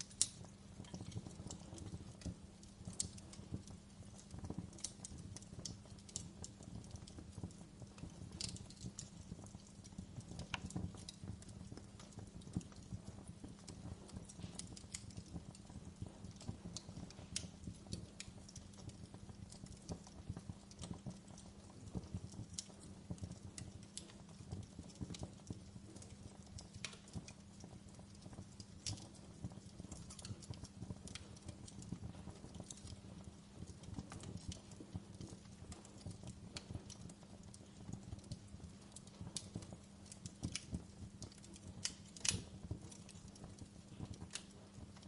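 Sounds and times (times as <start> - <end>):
fire crackling and popping: 0.0 - 45.0.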